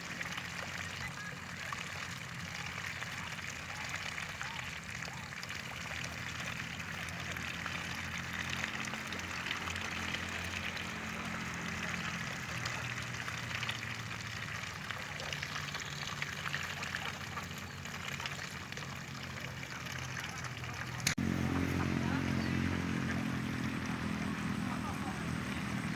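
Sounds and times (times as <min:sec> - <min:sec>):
water trickling and splashing: 0:00.0 - 0:25.9.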